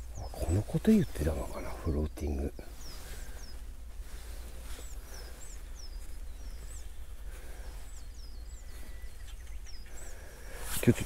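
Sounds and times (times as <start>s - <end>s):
small bird singing: 0.0s - 11.0s.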